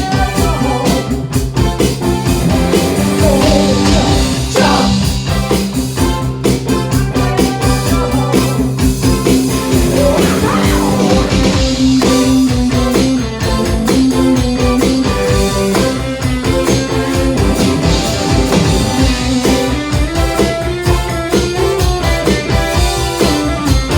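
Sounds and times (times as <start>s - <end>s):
drum kit beat: 0.0s - 23.9s
electric guitar: 0.0s - 23.9s.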